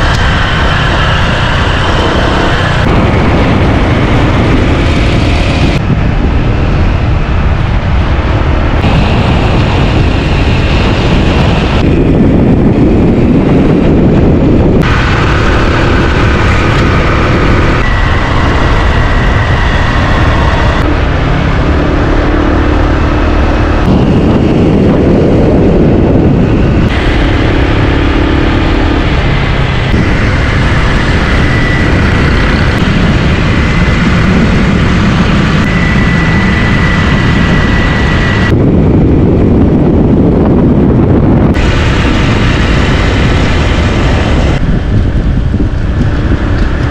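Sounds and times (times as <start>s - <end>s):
road noise: 0.0s - 46.9s
wind rushing over microphone: 0.0s - 46.9s.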